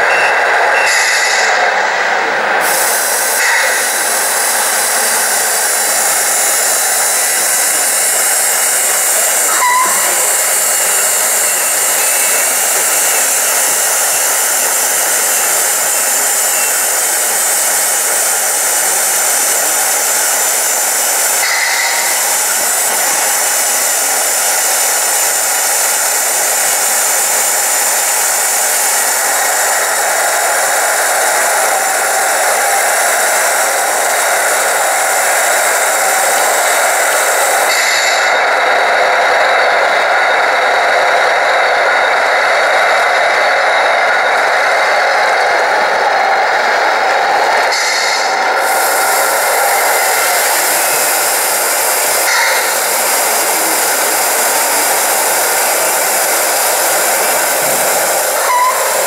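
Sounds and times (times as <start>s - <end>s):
hydraulic pump rushing: 0.0s - 59.0s.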